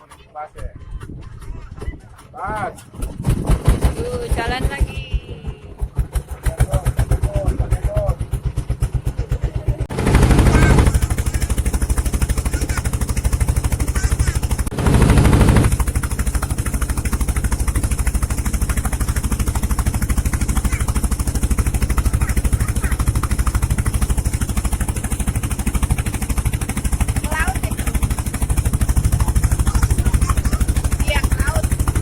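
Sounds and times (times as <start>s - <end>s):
boat engine chugging: 0.0s - 32.0s.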